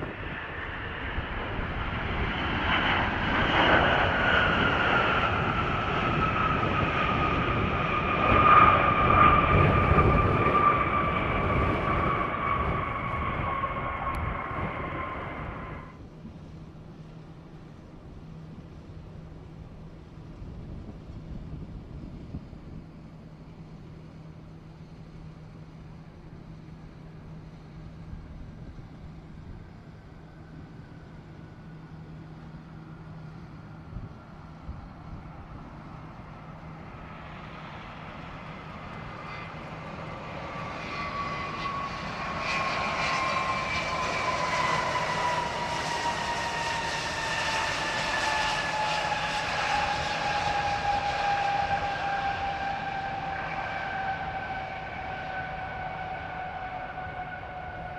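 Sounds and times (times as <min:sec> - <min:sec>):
jet engine rumble: 0:00.0 - 0:57.9
jet engine whine: 0:00.0 - 0:57.9.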